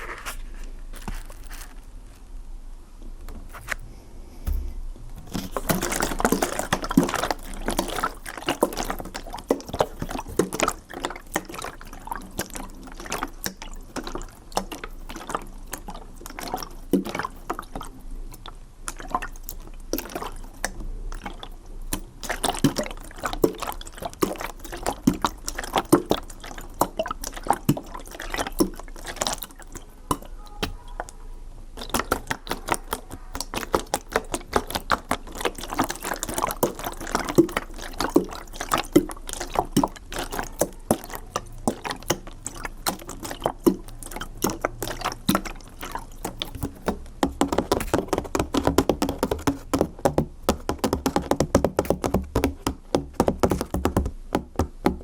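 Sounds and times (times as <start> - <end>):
water bubbling and dripping: 4.5 - 55.0.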